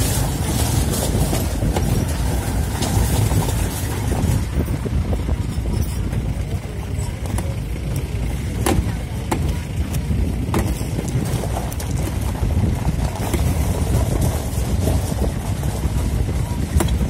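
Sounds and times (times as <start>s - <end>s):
knocks and rattles from bumps: 0.0s - 17.0s
vehicle rumbling on dirt track: 0.0s - 17.0s.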